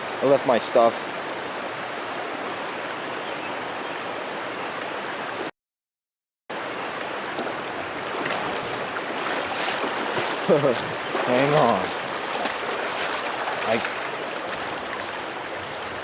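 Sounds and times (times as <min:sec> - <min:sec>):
creek water rushing: 0:00.0 - 0:05.5, 0:06.5 - 0:16.0.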